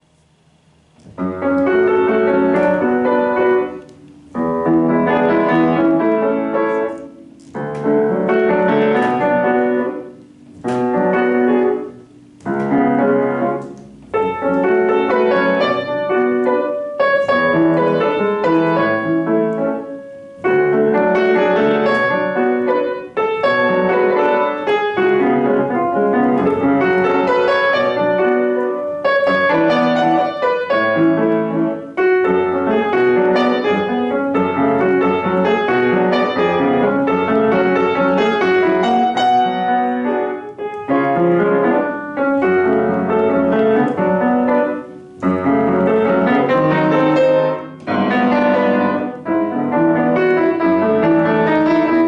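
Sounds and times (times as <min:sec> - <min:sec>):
solo piano classical piece: 0:00.0 - 0:52.0.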